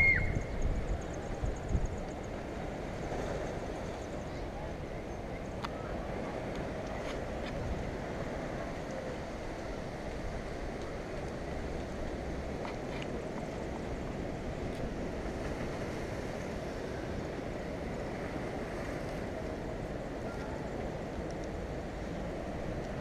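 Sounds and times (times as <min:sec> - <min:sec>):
wind buffeting microphone: 0:00.0 - 0:23.0
sea washing against rocks: 0:02.2 - 0:23.0.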